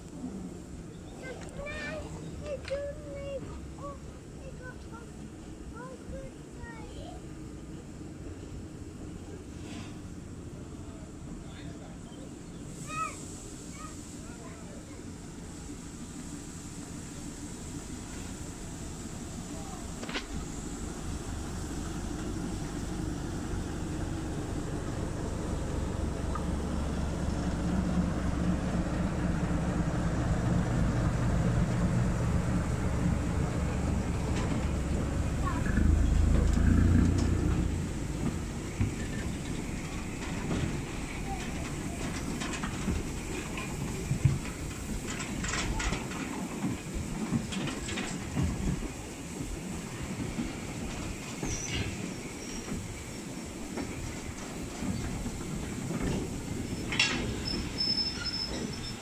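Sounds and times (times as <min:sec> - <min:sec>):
diesel locomotive engine drone: 0:00.0 - 0:59.0
train wagons rumbling past: 0:00.2 - 0:59.0.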